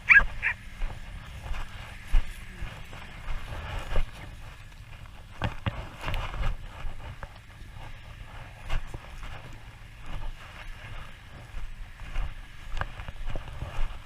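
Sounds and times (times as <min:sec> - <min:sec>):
horse hooves thudding on ground: 0:00.0 - 0:14.0.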